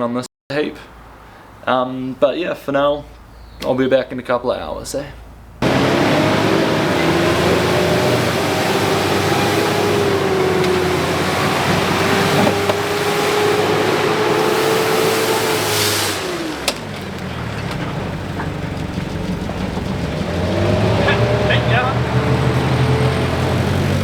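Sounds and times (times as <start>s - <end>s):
vehicle engine and road noise: 0.6s - 24.0s.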